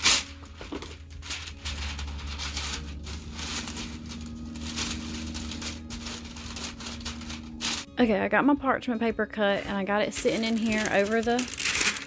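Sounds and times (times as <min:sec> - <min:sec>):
parchment paper crinkling: 0:00.0 - 0:07.9, 0:09.6 - 0:12.0.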